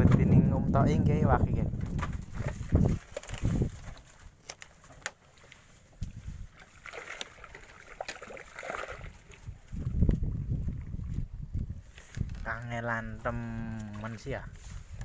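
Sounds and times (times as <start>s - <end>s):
water sloshing: 1.4s - 15.0s.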